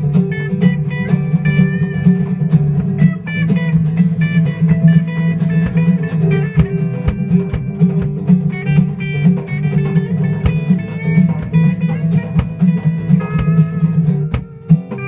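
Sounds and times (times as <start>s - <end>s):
band playing: 0.0s - 15.0s
drum hits: 0.0s - 15.0s.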